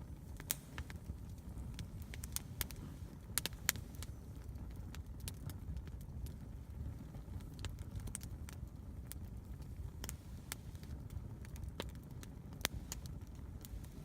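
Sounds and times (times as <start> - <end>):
campfire crackling and popping: 0.0 - 14.0
low steady rumble: 0.0 - 14.0.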